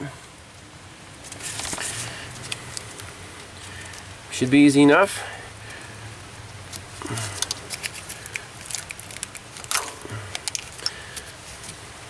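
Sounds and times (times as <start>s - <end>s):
light rain patter: 0.0s - 12.0s.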